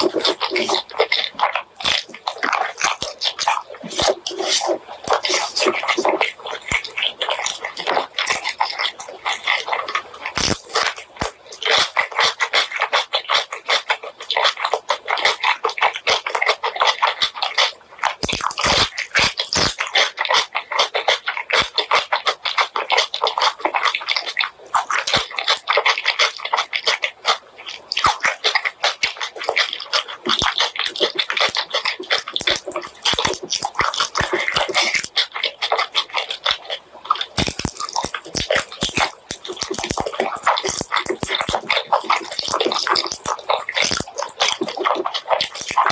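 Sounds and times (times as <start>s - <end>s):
wet chewing and mouth smacking: 0.0s - 45.9s.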